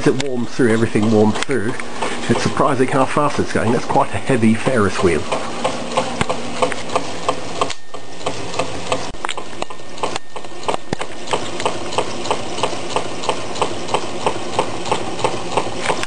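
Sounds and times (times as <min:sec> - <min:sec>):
stirling engine mechanical knock: 0:00.6 - 0:16.0.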